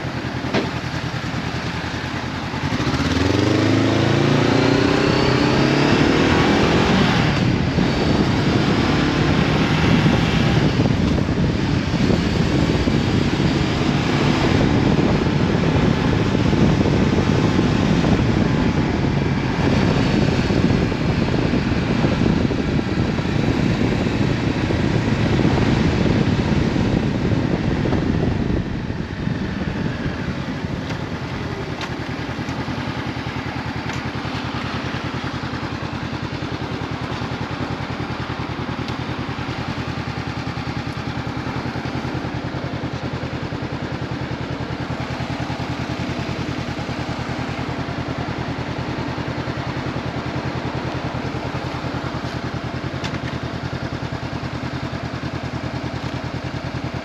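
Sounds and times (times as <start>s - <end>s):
motorcycle engine idling: 0.0s - 5.9s, 6.6s - 57.0s.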